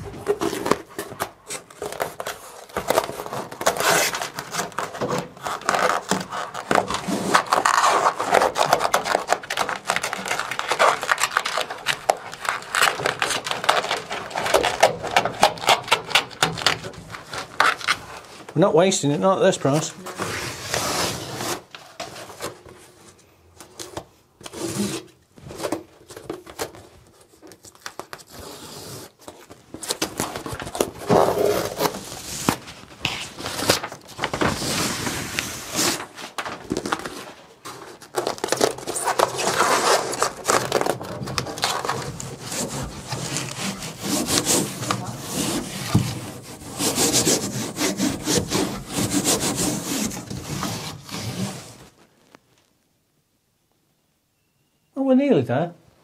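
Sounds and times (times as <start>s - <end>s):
scratchy rubbing and crinkling: 0.0s - 18.5s, 19.6s - 23.8s, 24.4s - 52.8s.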